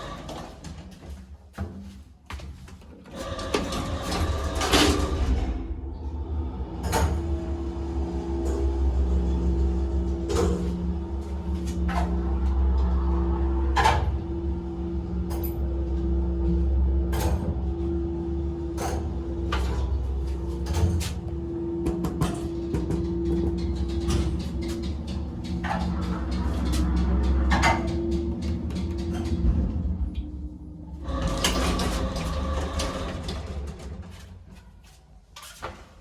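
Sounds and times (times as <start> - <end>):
lift motor humming: 3.1 - 34.5
lift machinery clatter: 3.1 - 34.7.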